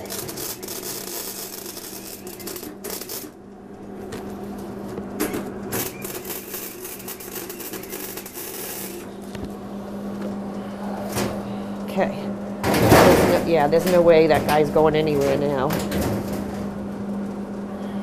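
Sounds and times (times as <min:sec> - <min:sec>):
welder arc crackling: 0:00.0 - 0:12.0, 0:12.6 - 0:17.6
low steady hum: 0:00.0 - 0:18.0.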